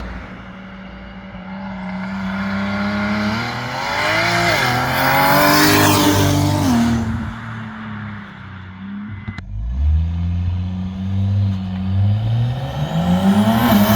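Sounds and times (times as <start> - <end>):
car exhaust with rising revs: 0.0 - 13.9.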